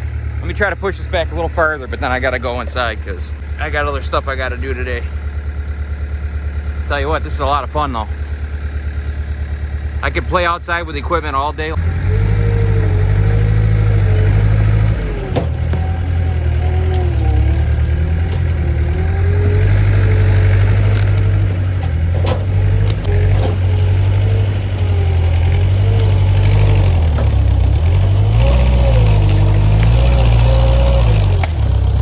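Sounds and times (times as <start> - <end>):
skid steer engine drone and whine: 0.0 - 32.0.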